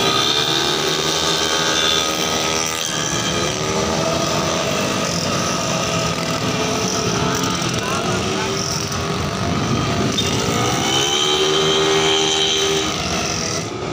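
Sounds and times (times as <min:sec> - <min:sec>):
scooter engines revving past: 0:00.0 - 0:13.9.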